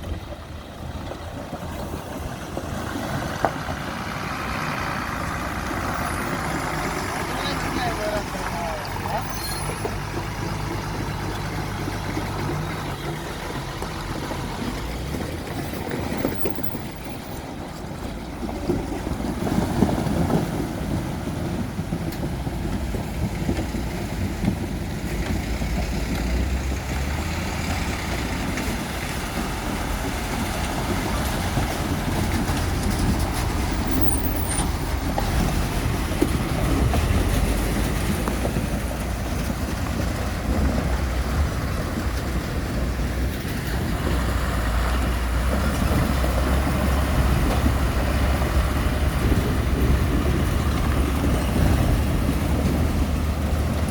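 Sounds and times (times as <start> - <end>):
road noise: 0.0 - 53.9
truck engine running: 0.0 - 53.9.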